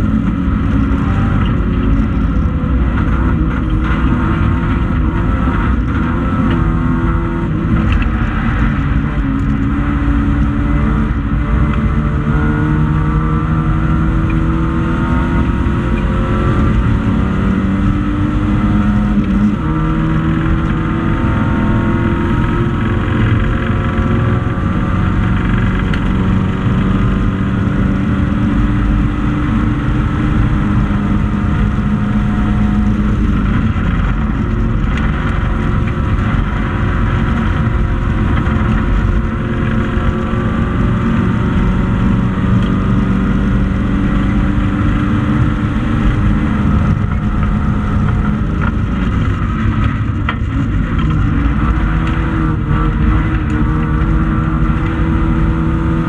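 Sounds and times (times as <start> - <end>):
car engine running hard: 0.0 - 56.0
road noise: 0.0 - 56.0
wind noise: 0.0 - 56.0.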